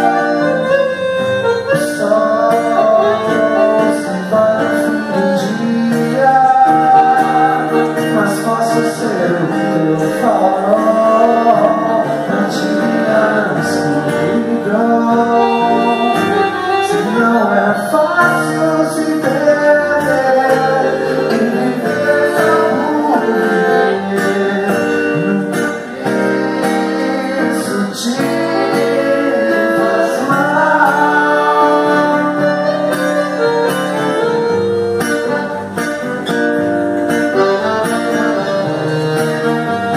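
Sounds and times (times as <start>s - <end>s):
man singing: 0.0s - 34.4s
acoustic guitar: 0.0s - 39.9s
piano accordion: 0.0s - 39.9s.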